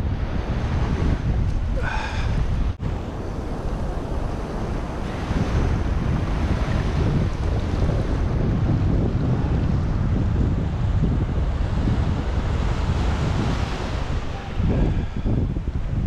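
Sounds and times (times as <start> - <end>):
surf washing across sand: 0.0 - 16.0
wind rumbling on microphone: 0.0 - 16.0.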